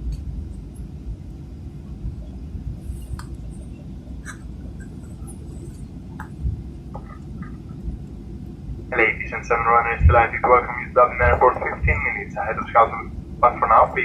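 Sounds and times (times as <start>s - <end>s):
airplane cabin rumble: 0.0s - 14.0s.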